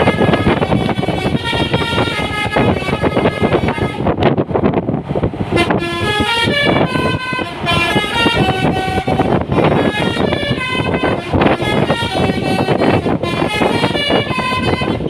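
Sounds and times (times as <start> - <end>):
multi-tone bus horn tune: 0.0 - 4.6, 5.4 - 15.0
bus engine running: 0.0 - 15.0.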